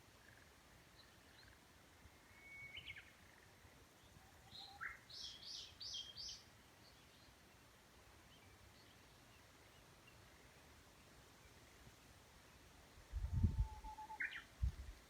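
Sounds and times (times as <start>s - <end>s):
faint breeze hiss: 0.0s - 15.0s
songbird singing: 0.0s - 15.0s.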